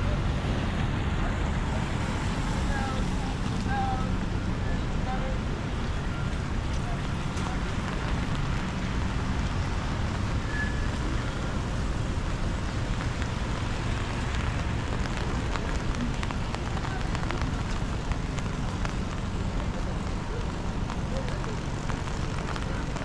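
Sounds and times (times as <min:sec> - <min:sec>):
rain hiss: 0:00.0 - 0:23.0
traffic on wet roads: 0:00.0 - 0:23.0
raindrops ticking: 0:00.4 - 0:23.0.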